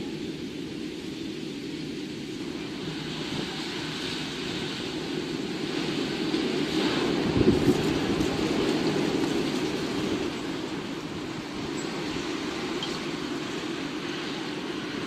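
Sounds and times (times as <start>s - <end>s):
storm wind rushing: 0.5s - 15.0s.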